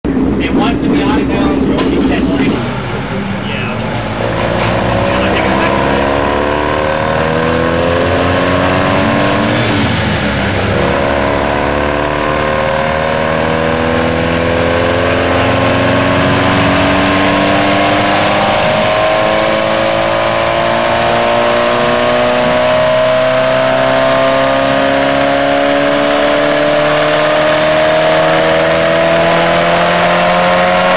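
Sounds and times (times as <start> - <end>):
turbocharged engine under load: 0.0 - 30.9.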